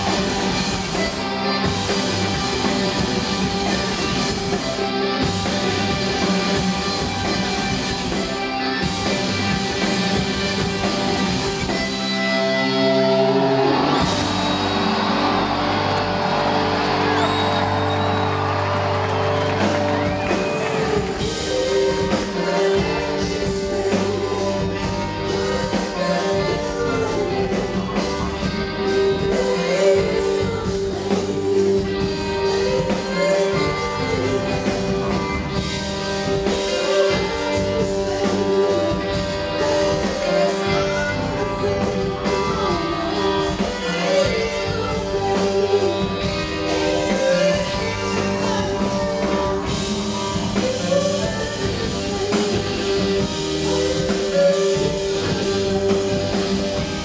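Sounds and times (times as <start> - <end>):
drum kit: 0.0 - 57.0
electric guitar: 0.0 - 57.0
person singing: 0.0 - 57.0.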